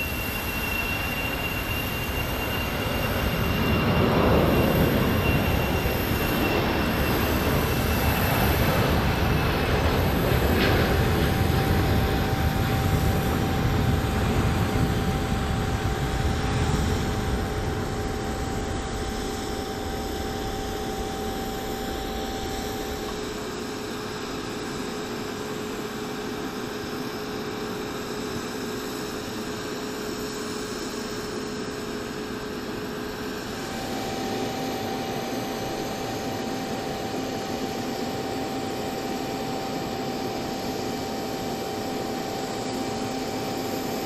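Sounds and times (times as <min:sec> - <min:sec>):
jet engines roaring with high whine: 0:00.0 - 0:44.0.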